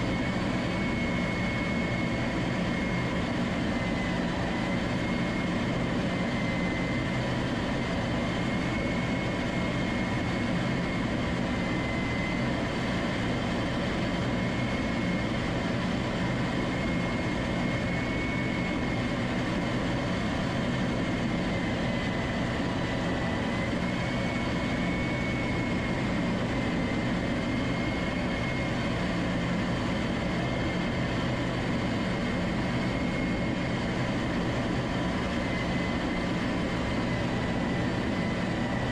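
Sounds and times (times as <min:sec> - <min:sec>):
engine and airflow rush: 0:00.0 - 0:38.9.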